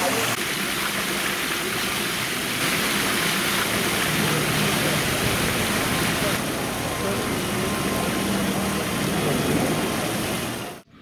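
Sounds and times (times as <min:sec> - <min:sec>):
fountain water splashing: 0:00.0 - 0:10.8.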